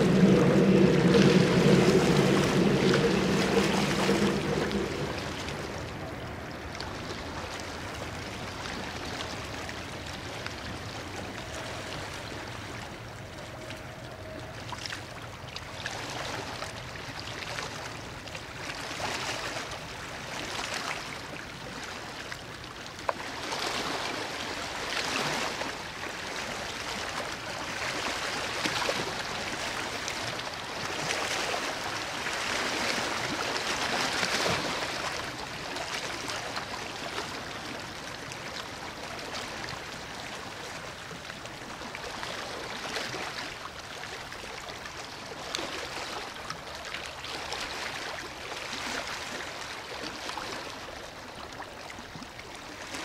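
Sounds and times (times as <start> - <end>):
river water washing on stones: 0.0 - 13.1, 14.8 - 53.0.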